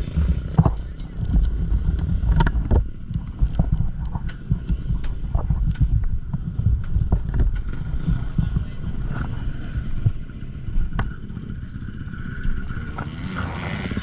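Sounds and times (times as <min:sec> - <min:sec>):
dirt bike engines running: 0:00.0 - 0:14.0
wind buffeting microphone: 0:00.0 - 0:14.0.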